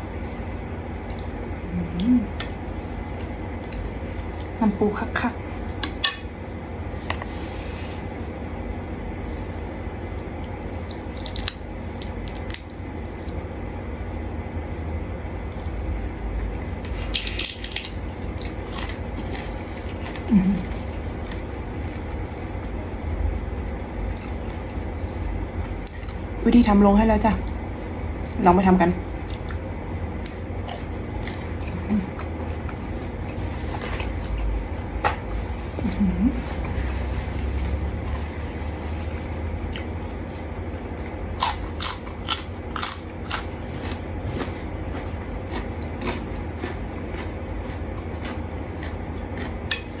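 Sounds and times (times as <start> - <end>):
chewing and crunching: 0.0 - 4.6, 9.2 - 13.4, 14.1 - 26.7, 27.4 - 50.0
steady low hum: 0.0 - 50.0.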